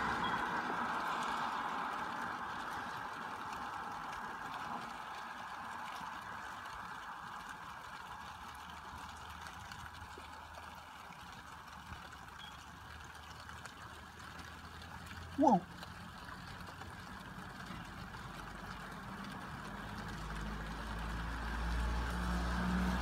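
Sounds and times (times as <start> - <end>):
rain on a wet street: 0.0 - 23.0.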